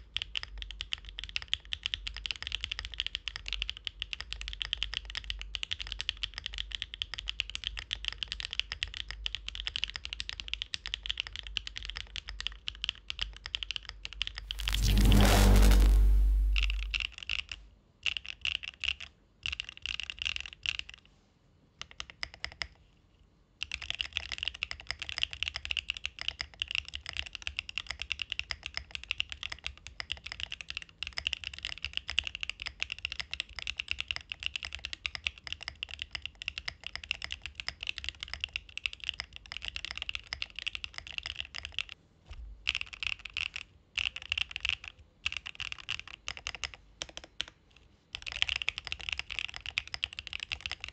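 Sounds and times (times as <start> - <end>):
typing on mechanical keyboard: 0.0 - 14.4, 18.1 - 21.0, 23.6 - 41.9, 42.7 - 50.9.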